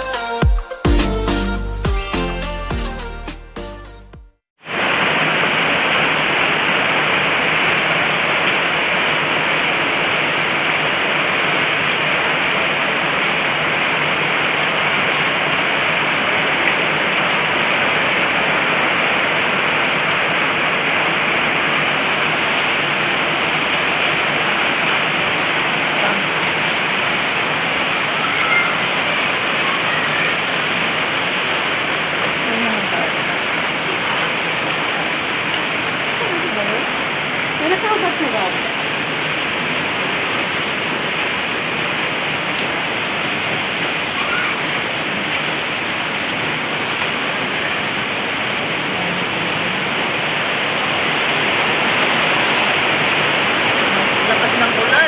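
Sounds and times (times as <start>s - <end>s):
heavy rain pouring: 4.6s - 55.0s.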